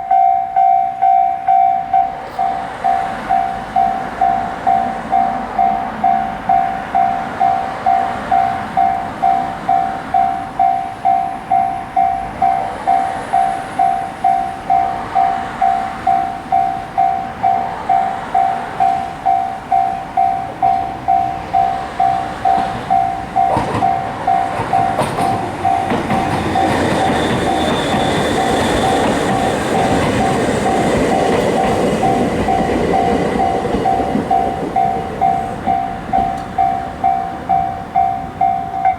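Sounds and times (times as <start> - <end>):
crossing alarm bell ringing: 0.0 - 38.9
electric train passing: 0.0 - 38.9.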